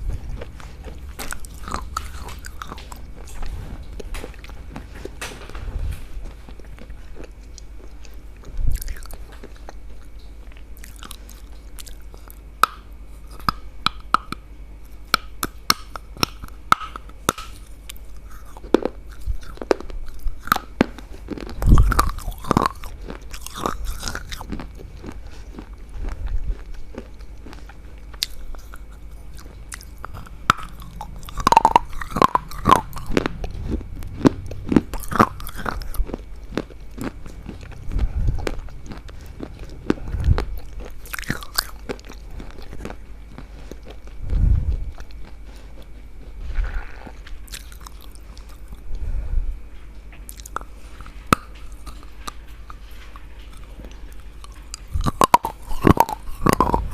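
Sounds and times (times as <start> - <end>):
crunchy food chewing: 0.0 - 56.9
steady low hum: 0.0 - 56.9.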